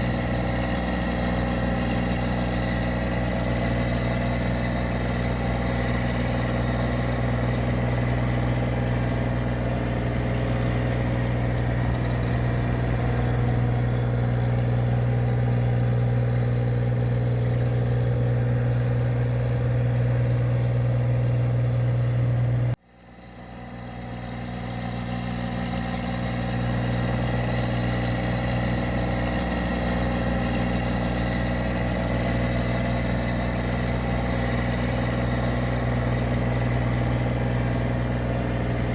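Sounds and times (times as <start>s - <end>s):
machine engine droning: 0.0s - 38.9s.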